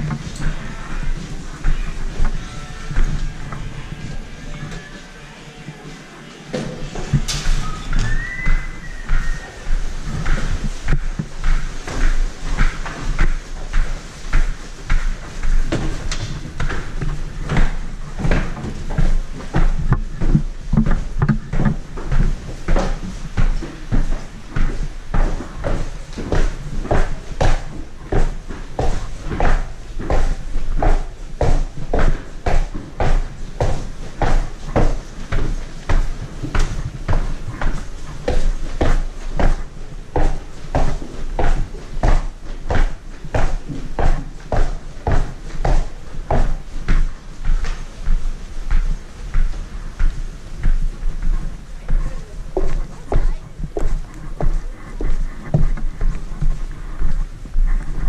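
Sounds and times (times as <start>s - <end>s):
footsteps: 0.0s - 58.0s.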